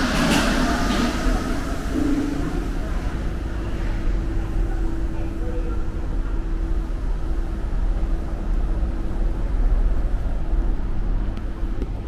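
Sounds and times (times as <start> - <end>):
steady hum: 0.0 - 12.0
tram running low rumble: 0.0 - 12.0.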